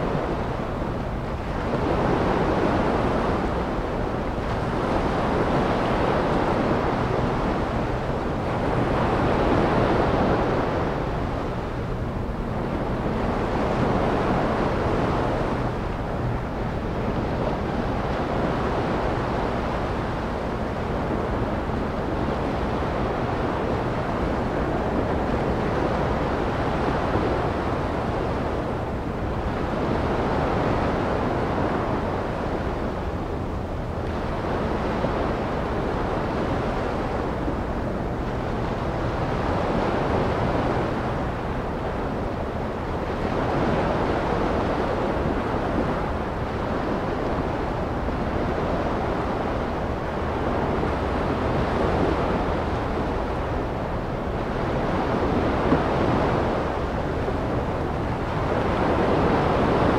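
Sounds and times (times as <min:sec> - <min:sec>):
ocean waves on beach: 0:00.0 - 0:59.9.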